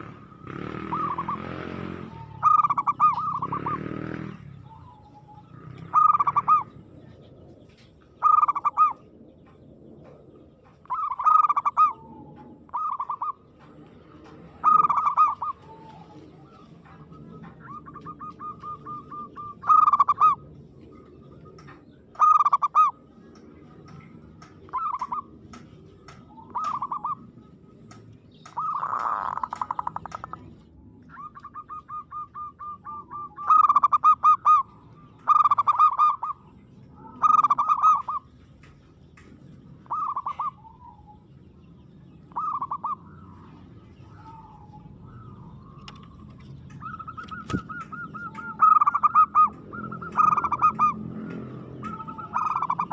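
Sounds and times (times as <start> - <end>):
dove cooing: 0.0 - 38.8, 39.8 - 41.3, 42.2 - 52.9.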